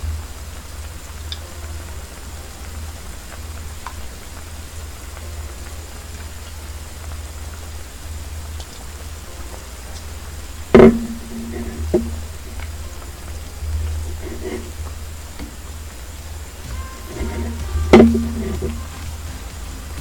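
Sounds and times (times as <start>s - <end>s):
soup simmering and bubbling: 0.0s - 19.3s.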